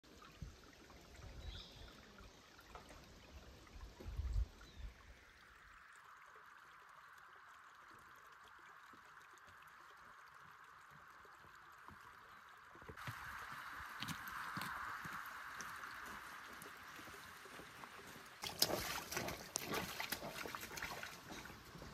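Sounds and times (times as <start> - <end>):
stream trickling over stones: 0.0 - 21.9.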